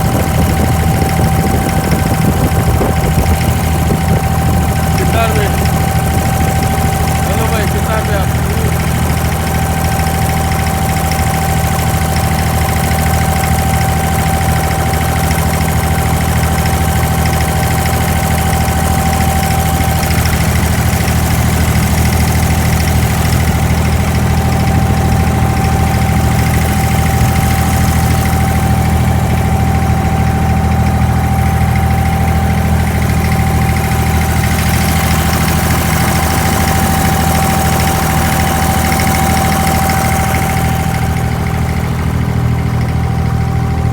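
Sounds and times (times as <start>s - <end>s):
boat diesel engine drone: 0.0s - 43.9s
high engine whine: 0.0s - 43.9s.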